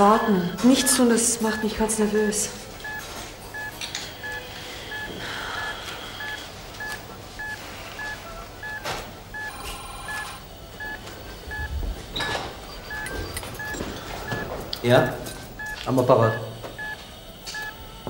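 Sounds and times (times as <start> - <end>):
heart monitor beeping: 0.0 - 18.0
telephone ringing: 0.0 - 18.0.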